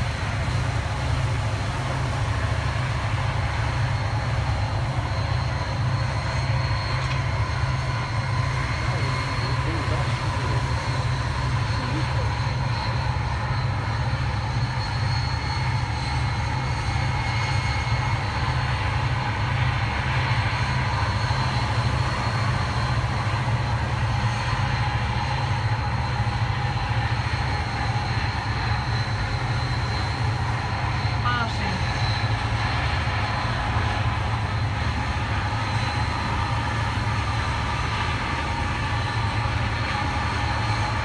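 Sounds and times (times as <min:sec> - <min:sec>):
faint whining tones: 0:00.0 - 0:41.0
ship engines rumbling: 0:00.0 - 0:41.0.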